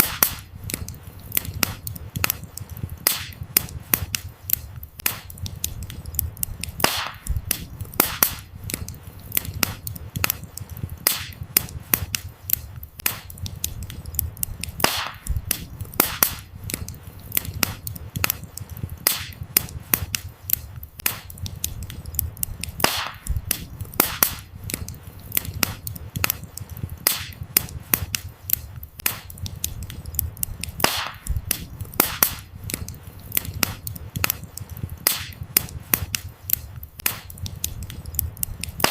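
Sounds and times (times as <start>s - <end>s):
firewood crackling and popping: 0.0s - 38.9s
rumble of flames: 0.0s - 38.9s.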